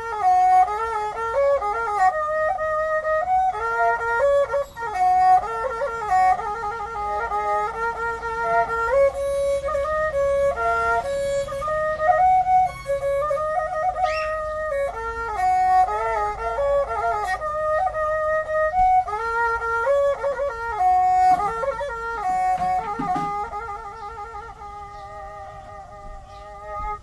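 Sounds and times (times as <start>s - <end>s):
bowed fiddle melody: 0.0s - 27.0s.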